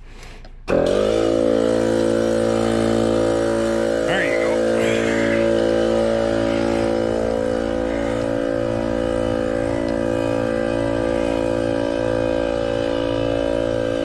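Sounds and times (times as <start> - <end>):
air compressor humming: 0.0 - 14.0.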